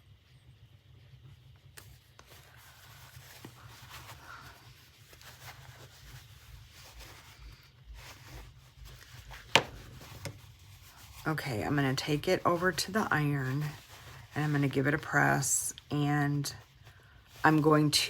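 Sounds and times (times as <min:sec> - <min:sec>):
fabric rustling and rubbing: 0:01.0 - 0:18.0.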